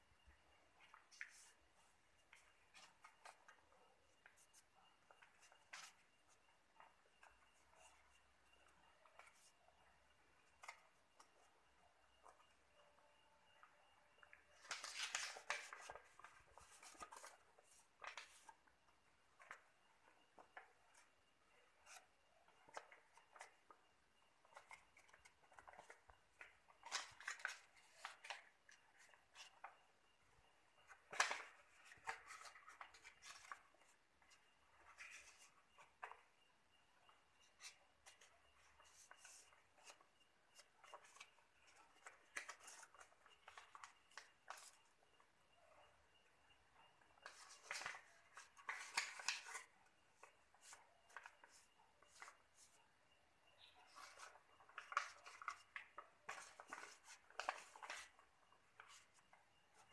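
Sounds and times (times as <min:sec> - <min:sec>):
paper rustling and crinkling: 0:00.7 - 0:12.8, 0:13.6 - 0:36.4, 0:37.0 - 0:45.0, 0:47.2 - 0:52.8, 0:53.6 - 0:59.9.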